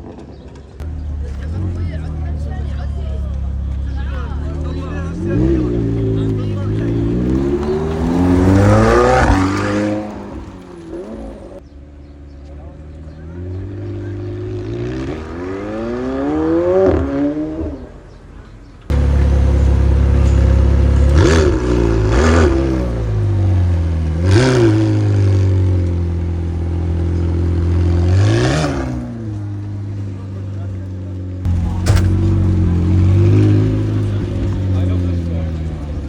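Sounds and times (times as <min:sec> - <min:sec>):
car engine revving: 0:00.8 - 0:11.6, 0:12.9 - 0:18.0, 0:18.9 - 0:36.0.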